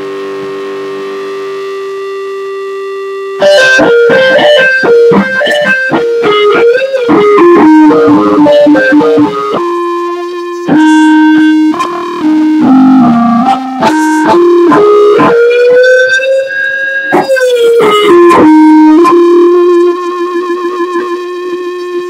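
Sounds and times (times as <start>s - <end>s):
electric guitar with pitch bends: 0.0s - 22.0s.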